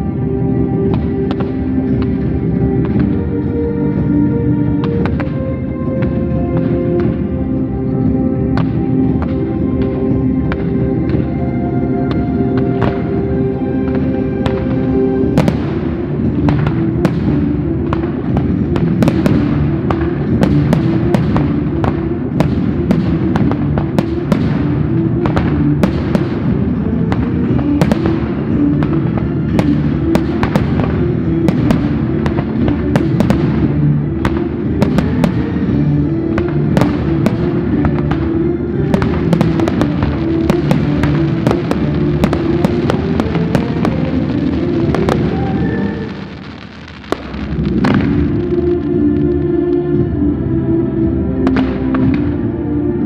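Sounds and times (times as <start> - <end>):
fireworks bursting and crackling: 0.0 - 49.6, 51.4 - 52.6
music with low notes: 0.0 - 53.0.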